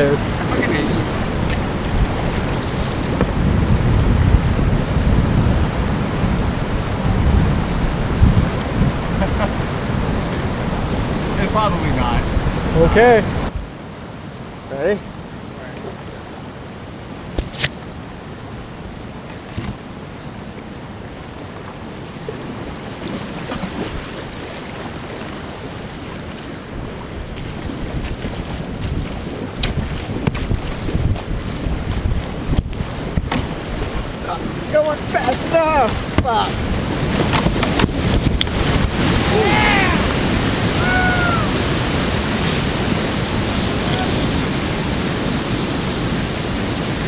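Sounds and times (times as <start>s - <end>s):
paddle splashes: 0.0s - 13.7s, 19.0s - 47.0s
wind buffeting microphone: 0.0s - 13.8s, 22.3s - 47.0s
river water rushing over rocks: 0.0s - 47.0s.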